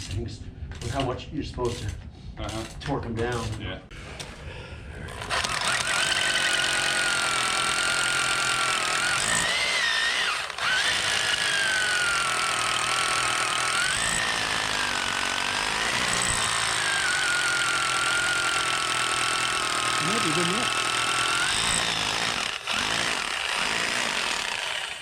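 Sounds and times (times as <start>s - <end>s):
hammer drill boring into concrete: 0.7s - 1.1s, 5.1s - 25.0s.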